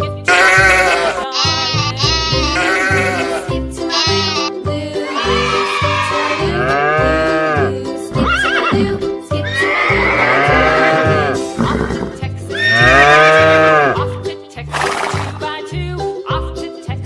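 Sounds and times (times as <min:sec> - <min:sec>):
upbeat background music: 0:00.0 - 0:17.0.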